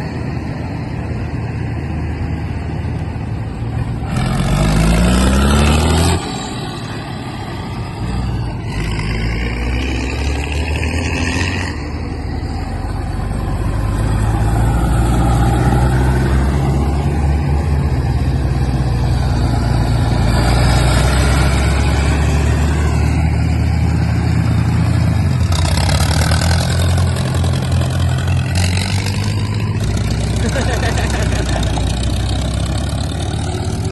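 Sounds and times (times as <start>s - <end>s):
tractor engine droning: 0.0s - 33.9s.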